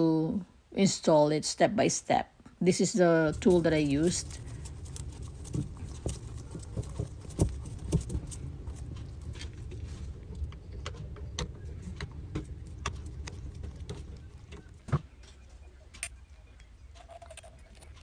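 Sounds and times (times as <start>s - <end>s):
steady low rumble: 2.6s - 17.9s.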